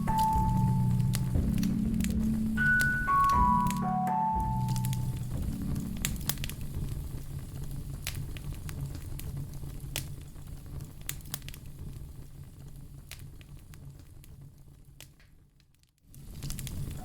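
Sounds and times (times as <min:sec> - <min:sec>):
low steady fire rumble: 0:00.0 - 0:17.0
wood fire crackling and popping: 0:00.0 - 0:17.0.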